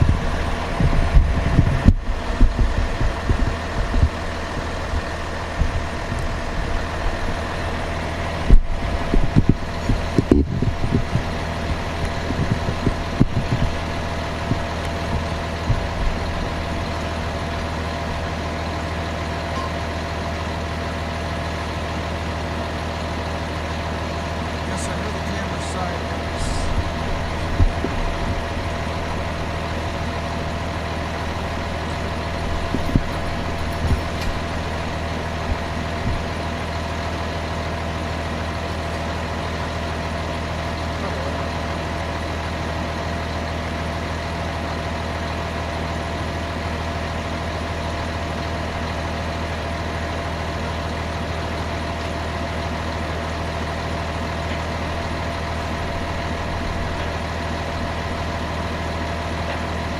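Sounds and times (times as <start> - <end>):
mechanical engine hum: 0.0 - 59.9.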